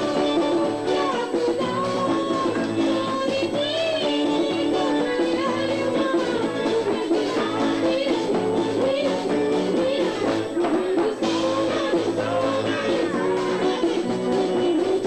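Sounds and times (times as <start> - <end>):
live band music with bending melody: 0.0 - 15.0.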